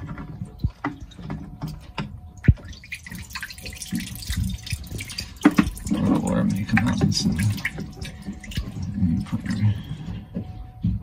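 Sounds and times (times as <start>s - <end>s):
water dripping and trickling: 0.0s - 10.5s.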